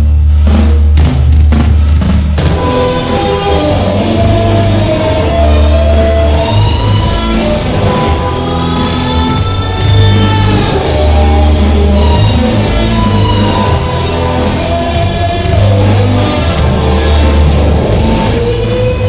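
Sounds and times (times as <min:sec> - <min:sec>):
hard rock music with guitar and drums: 0:00.4 - 0:19.0.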